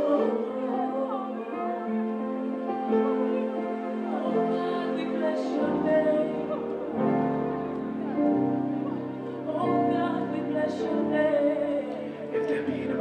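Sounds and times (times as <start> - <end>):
woman singing: 0.0 - 2.4, 3.2 - 13.0
keyboard chords: 0.0 - 13.0.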